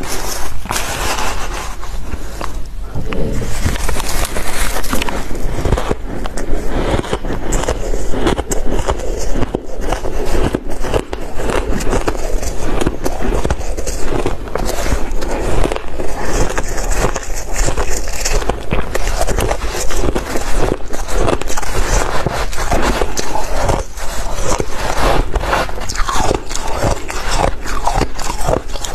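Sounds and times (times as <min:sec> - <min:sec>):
chewing crushed ice: 0:00.0 - 0:28.9.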